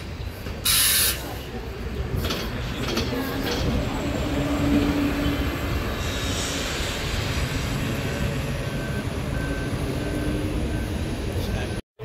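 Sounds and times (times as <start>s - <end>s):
bus engine rumble: 0.0s - 11.8s.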